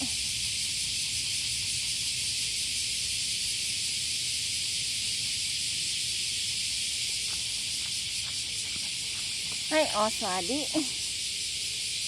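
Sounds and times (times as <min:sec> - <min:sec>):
cicadas singing: 0:00.0 - 0:12.0.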